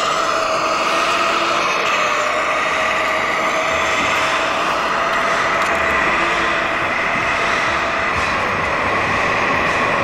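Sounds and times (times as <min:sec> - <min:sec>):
model truck motor whine: 0:00.0 - 0:10.0.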